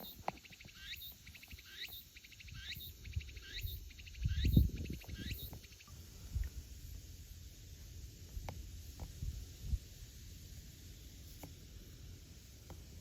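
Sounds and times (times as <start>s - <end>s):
cicada calling: 0.0s - 13.0s.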